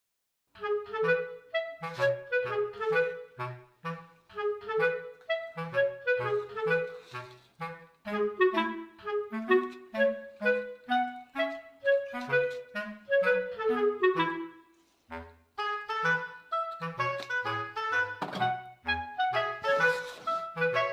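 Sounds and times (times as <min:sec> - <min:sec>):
bouncy woodwind instrumental tune: 0:00.5 - 0:20.9.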